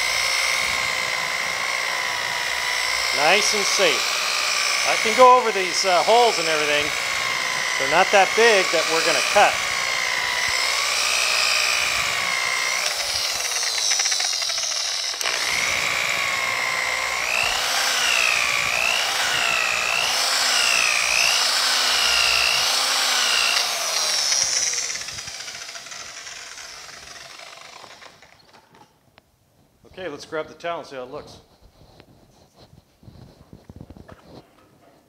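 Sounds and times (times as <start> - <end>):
electric polisher motor whine: 0.0 - 28.4.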